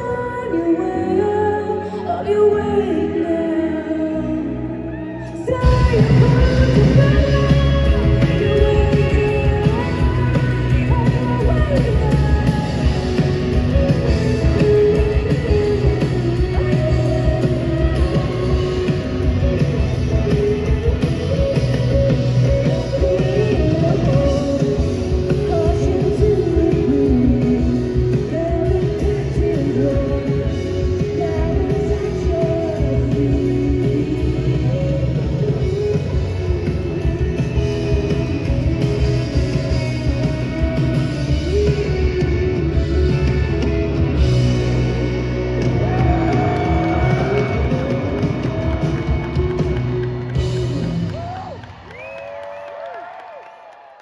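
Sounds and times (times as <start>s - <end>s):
woman singing: 0.0s - 44.2s
guitar and keyboard chords: 0.0s - 51.9s
full band with drums: 4.9s - 54.0s.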